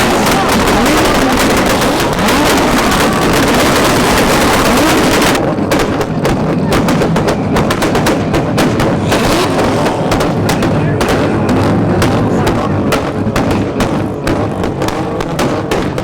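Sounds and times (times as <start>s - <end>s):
car engines revving: 0.0s - 16.0s
exhaust pops and bangs: 0.0s - 16.0s.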